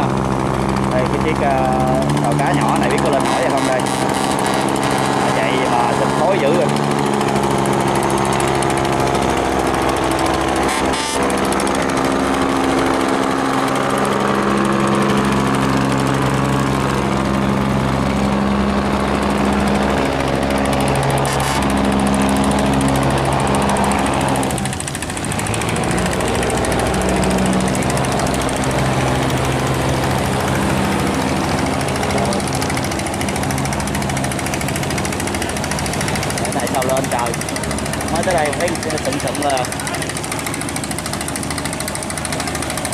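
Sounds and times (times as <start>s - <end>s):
boat engine running hard: 0.0s - 42.9s.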